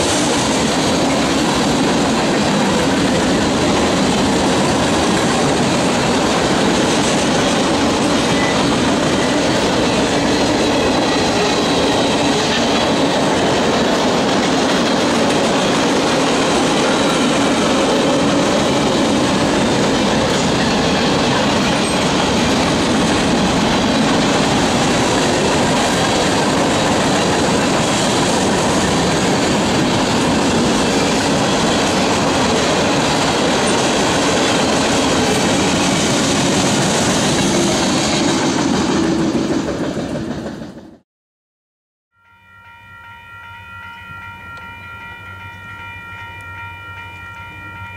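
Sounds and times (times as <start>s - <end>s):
freight train wheels rumbling on rail: 0.0s - 41.0s.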